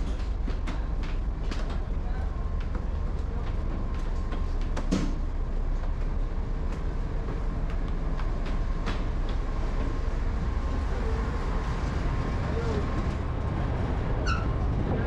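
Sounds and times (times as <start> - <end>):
ferry engine rumbling: 0.0 - 15.0.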